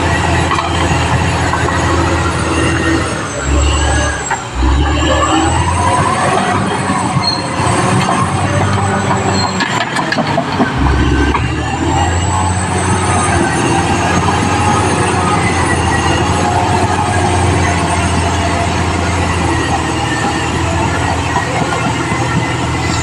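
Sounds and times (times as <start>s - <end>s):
bulldozer diesel engine running: 0.0s - 23.0s
steel tracks clattering and squealing: 0.0s - 23.0s.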